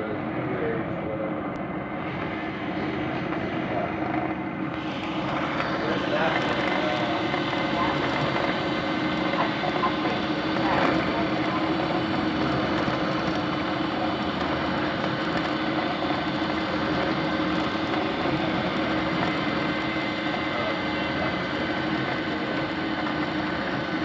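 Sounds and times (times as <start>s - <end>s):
three d printer hum and whine: 0.0s - 24.0s.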